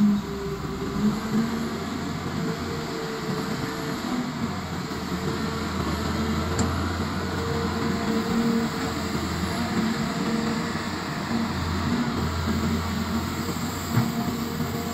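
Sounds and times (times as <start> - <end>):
excavator diesel engine under load: 0.0 - 14.9.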